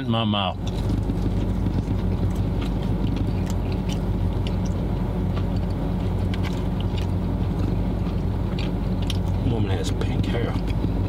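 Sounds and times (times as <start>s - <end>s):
car engine idling: 0.1s - 11.0s
person chewing crispy food: 0.5s - 9.5s, 10.2s - 10.9s.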